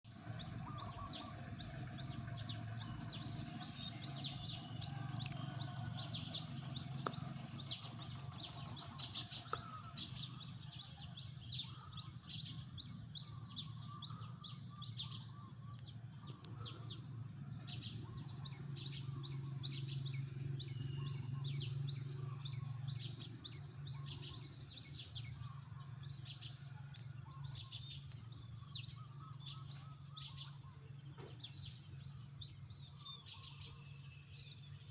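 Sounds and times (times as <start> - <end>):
small birds chirping: 0.1 - 34.9
steady low hum: 0.1 - 34.9.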